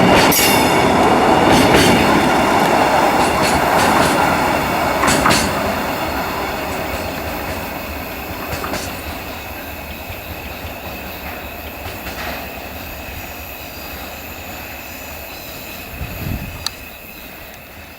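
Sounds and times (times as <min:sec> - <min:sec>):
freight train rolling: 0:00.0 - 0:17.9
wheels clacking over rail joints: 0:00.0 - 0:17.9.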